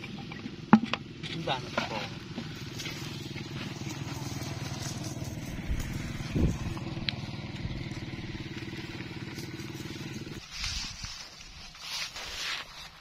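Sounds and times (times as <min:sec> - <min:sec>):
small engine running: 0:00.0 - 0:11.5.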